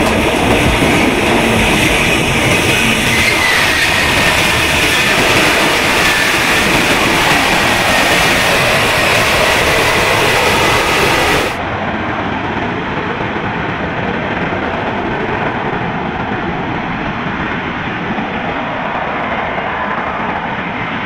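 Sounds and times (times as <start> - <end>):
jet engine roaring: 0.0 - 21.0.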